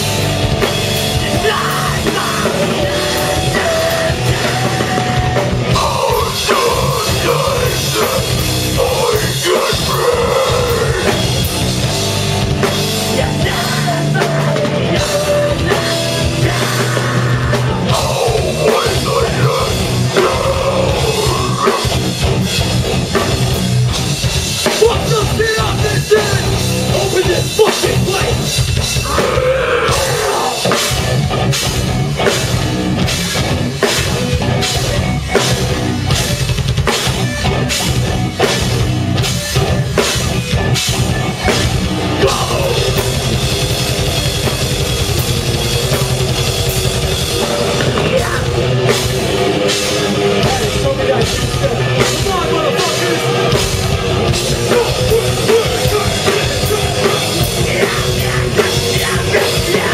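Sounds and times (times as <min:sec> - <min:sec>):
drum kit: 0:00.0 - 0:59.9
heavy rock band playing live: 0:00.0 - 0:59.9.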